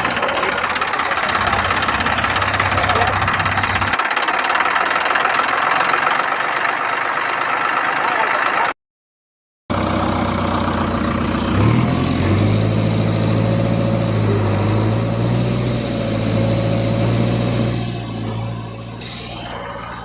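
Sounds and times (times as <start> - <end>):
vehicle engine humming: 0.0 - 8.8, 9.7 - 20.0.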